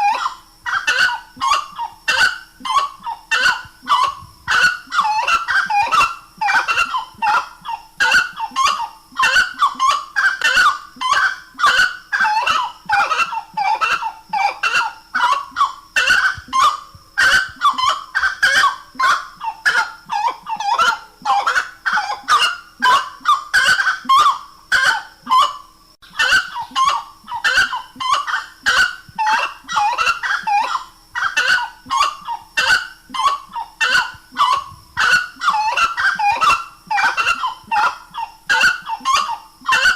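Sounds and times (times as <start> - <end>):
bird honking calls: 0.0 - 39.9.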